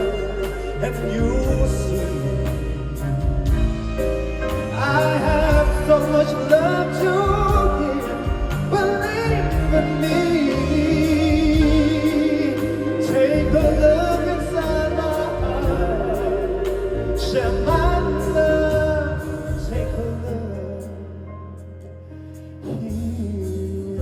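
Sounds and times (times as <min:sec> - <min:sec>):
pop ballad with singer: 0:00.0 - 0:24.0.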